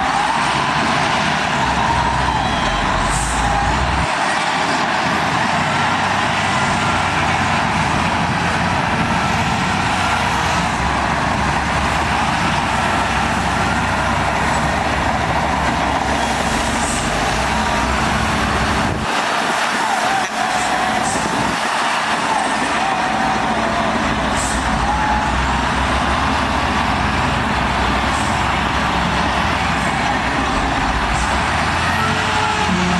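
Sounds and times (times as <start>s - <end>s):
earthmoving machinery diesel engine: 0.0s - 32.9s.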